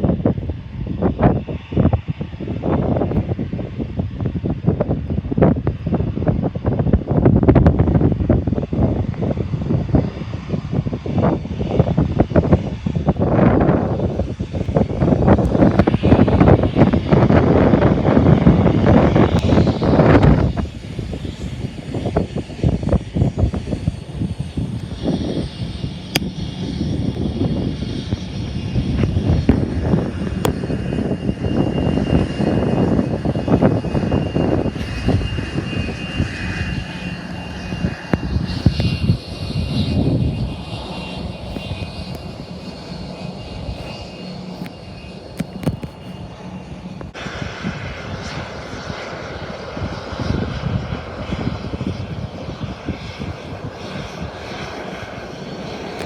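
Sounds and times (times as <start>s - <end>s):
jet engines whining: 0.0s - 56.0s
wind buffeting microphone: 0.0s - 56.0s.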